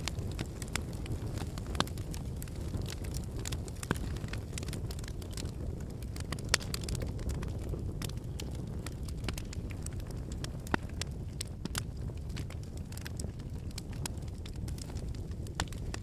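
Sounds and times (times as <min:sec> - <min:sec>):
campfire flames rumbling: 0:00.0 - 0:16.0
firewood crackling and popping: 0:00.0 - 0:16.0.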